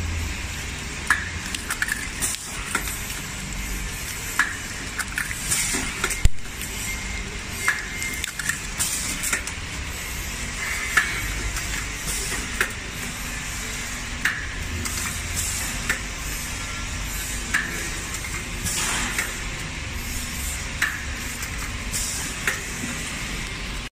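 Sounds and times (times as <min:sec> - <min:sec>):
machine humming: 0:00.0 - 0:23.9.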